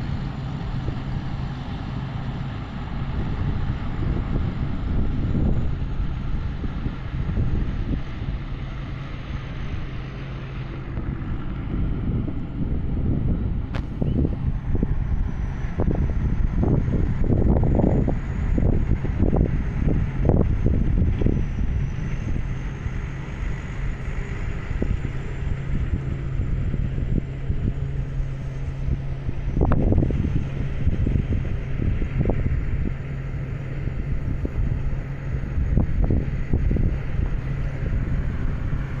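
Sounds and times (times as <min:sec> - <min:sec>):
distant harvester engine drone: 0:00.0 - 0:39.0
wind buffeting microphone: 0:00.0 - 0:39.0.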